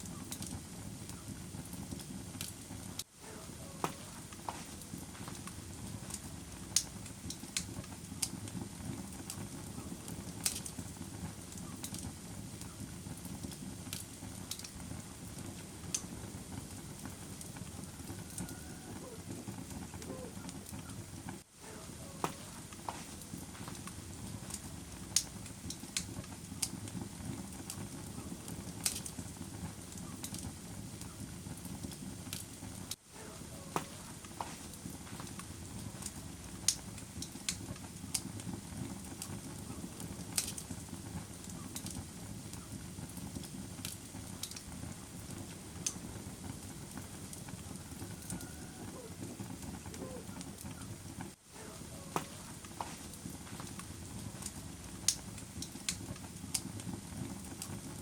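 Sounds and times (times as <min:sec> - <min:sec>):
fire pops and snaps: 0:00.0 - 0:03.1, 0:03.7 - 0:58.0
fire rumbling in a fireplace: 0:00.0 - 0:58.0.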